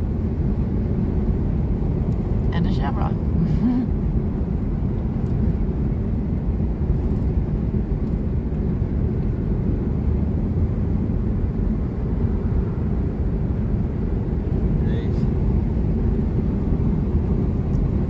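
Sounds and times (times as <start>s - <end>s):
road and engine rumble: 0.0s - 18.0s.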